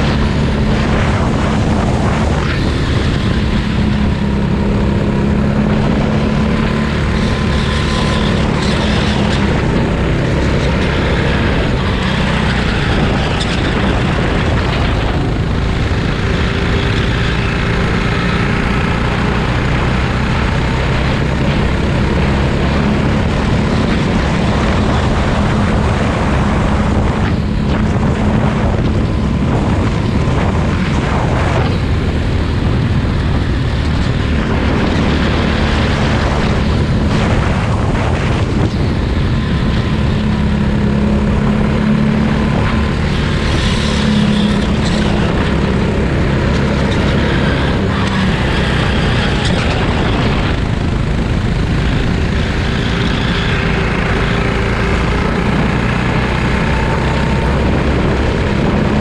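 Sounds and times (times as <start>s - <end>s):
go-kart engine racing: 0.0s - 59.0s.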